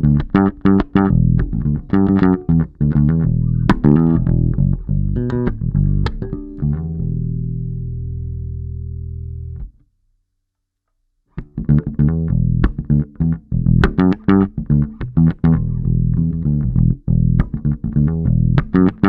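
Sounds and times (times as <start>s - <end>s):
electric bass notes: 0.0s - 9.9s, 11.4s - 19.0s.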